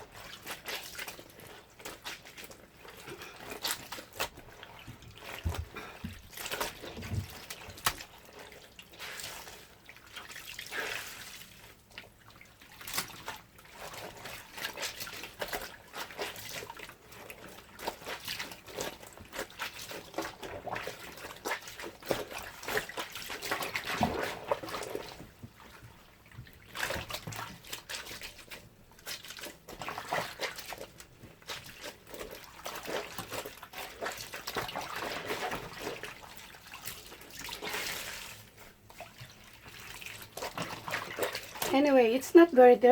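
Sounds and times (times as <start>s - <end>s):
hand washing clothes in water: 0.0s - 42.9s.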